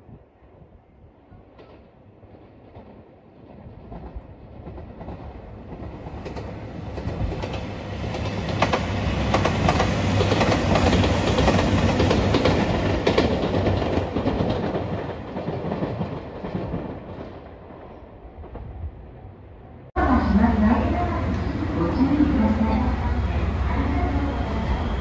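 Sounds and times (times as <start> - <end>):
diesel train passing: 2.0 - 25.0.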